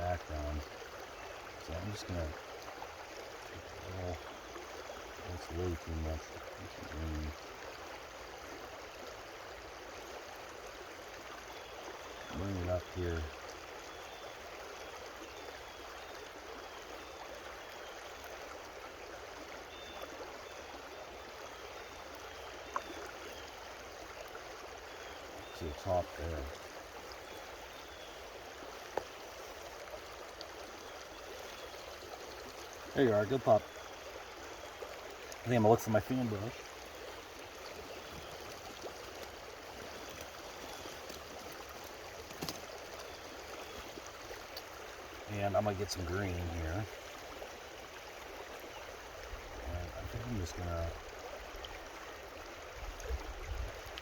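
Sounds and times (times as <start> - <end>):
creek water babbling: 0.0 - 54.0.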